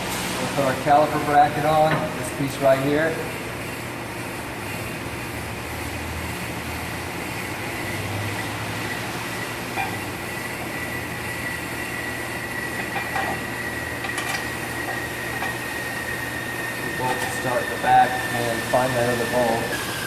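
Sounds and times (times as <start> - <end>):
shop machine whine: 0.0 - 20.0.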